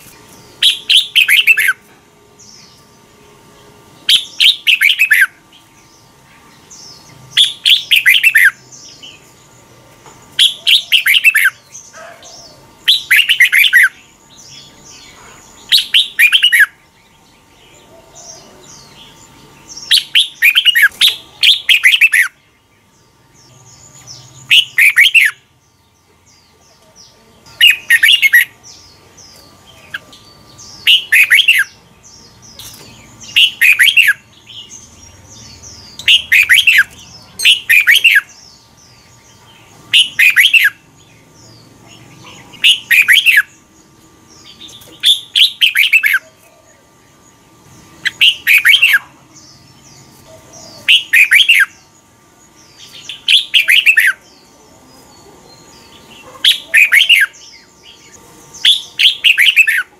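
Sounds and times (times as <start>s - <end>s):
bird warbling song: 0.0s - 59.9s
faint high bird chirps: 0.0s - 59.9s.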